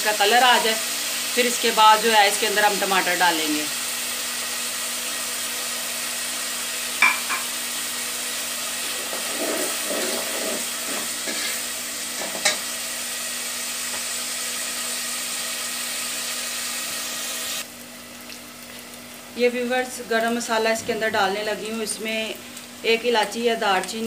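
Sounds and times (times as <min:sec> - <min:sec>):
onions sizzling in a pot: 0:00.0 - 0:24.0.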